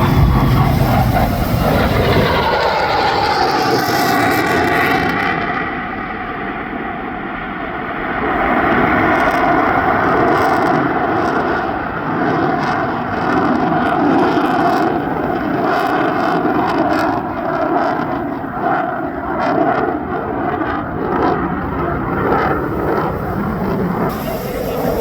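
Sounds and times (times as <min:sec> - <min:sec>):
jet engine roar in flight: 0:00.0 - 0:25.0.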